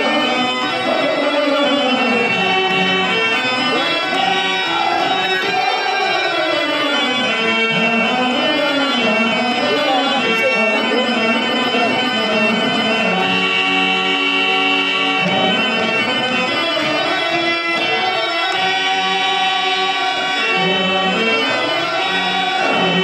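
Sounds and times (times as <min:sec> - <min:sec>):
harmonium playing: 0:00.0 - 0:23.0.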